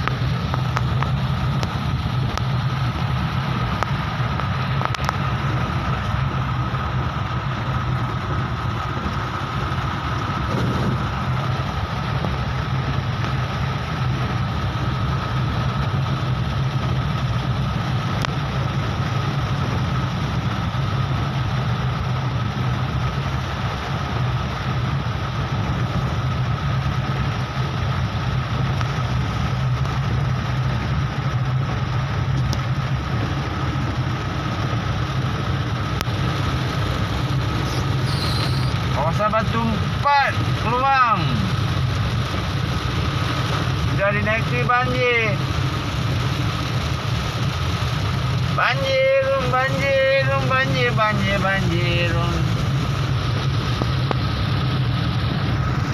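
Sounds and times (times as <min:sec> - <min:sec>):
car engine hum: 0:00.0 - 0:55.9
thin steady whine: 0:00.0 - 0:55.9
tyres hissing on wet road: 0:00.0 - 0:55.9.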